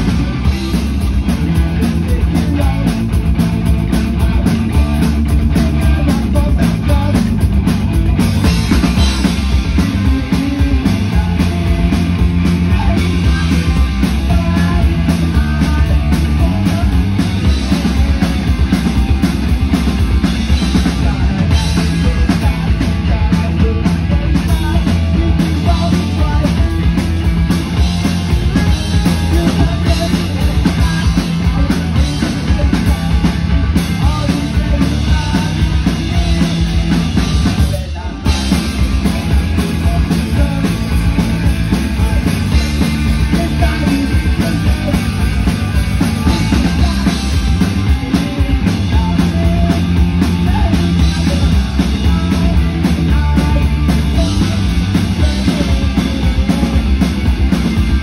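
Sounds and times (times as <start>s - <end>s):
distorted electric guitar: 0.0s - 58.0s
drum kit fast beat: 0.0s - 58.0s
electric bass: 0.0s - 58.0s.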